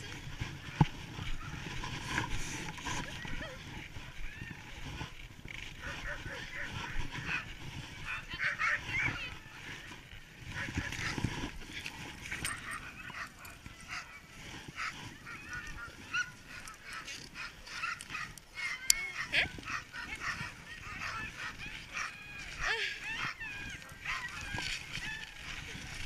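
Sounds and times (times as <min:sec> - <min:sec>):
sled dogs yelping and whining: 0:00.0 - 0:26.0.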